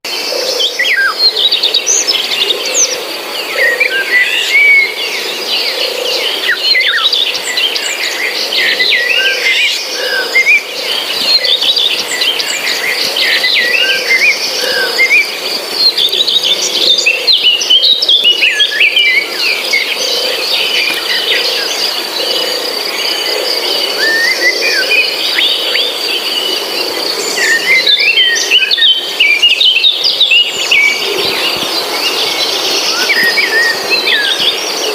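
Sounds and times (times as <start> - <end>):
birds chirping and calling: 0.1 - 34.9.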